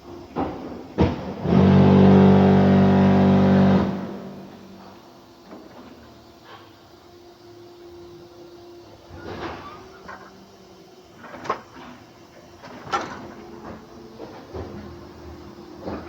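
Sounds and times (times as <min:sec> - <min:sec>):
factory machinery humming: 0:00.0 - 0:16.0.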